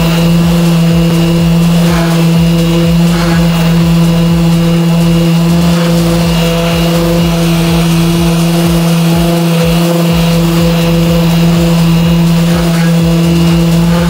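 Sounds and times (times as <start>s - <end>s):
orbital sander on steel: 0.0s - 14.0s.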